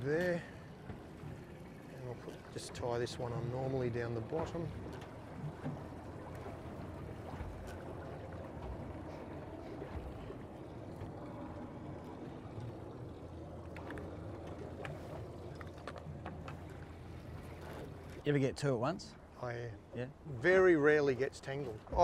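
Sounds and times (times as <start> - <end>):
choppy water against boat hull: 0.0 - 22.0.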